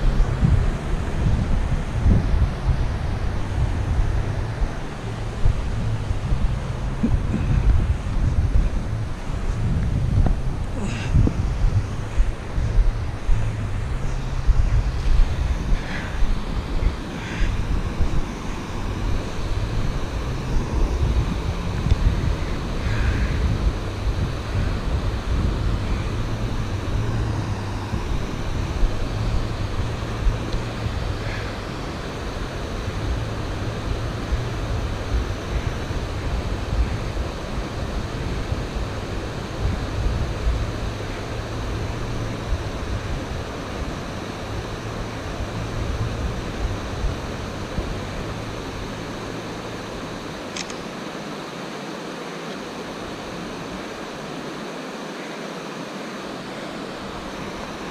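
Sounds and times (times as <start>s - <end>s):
low rumble: 0.0s - 50.2s
water rushing over rocks: 0.0s - 57.9s.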